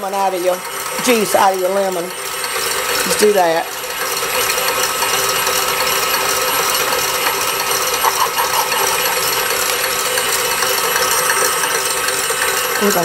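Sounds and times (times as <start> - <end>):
stand mixer whisking: 0.0 - 13.0
whisk ticking against metal bowl: 0.1 - 13.0.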